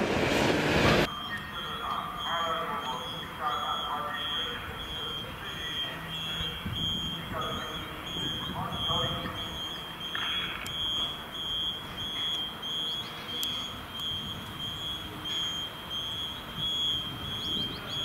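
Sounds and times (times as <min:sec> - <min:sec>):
faint bird chirps: 0:01.1 - 0:18.0
high electronic alarm beeps: 0:01.1 - 0:18.0.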